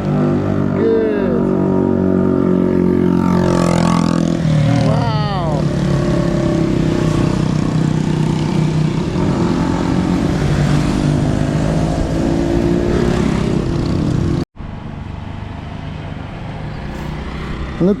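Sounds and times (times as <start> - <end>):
motorcycle engine running: 0.0 - 14.4
road and wind noise: 0.0 - 18.0.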